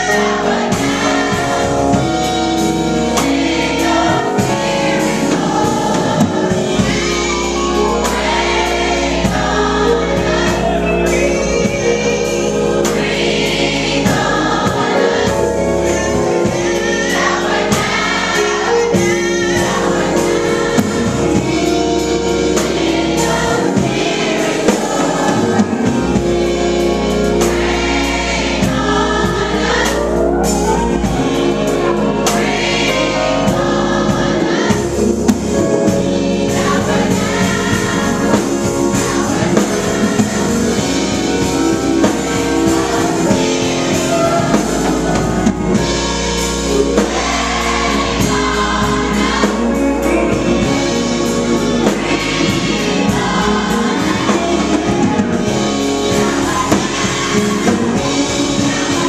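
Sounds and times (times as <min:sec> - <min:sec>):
bass line: 0:00.0 - 0:59.0
choir singing gospel music: 0:00.0 - 0:59.0.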